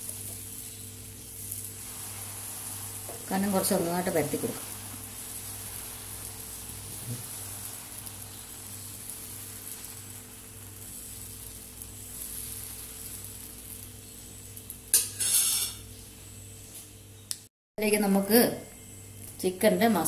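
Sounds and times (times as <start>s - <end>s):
batter sizzling on griddle: 0.0s - 17.0s, 18.8s - 20.0s.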